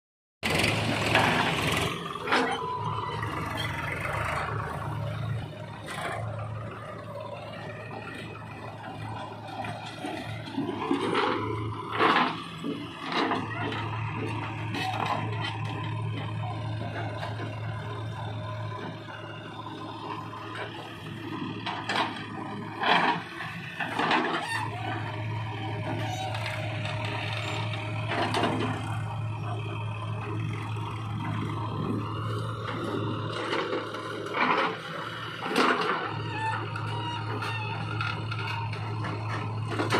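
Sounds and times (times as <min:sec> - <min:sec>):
diesel engine running: 0:00.4 - 0:39.9.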